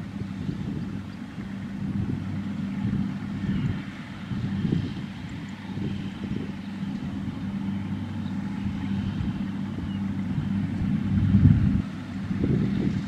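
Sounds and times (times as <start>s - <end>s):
combine harvester engines humming: 0.0s - 13.0s
loud low rumble: 0.0s - 13.0s.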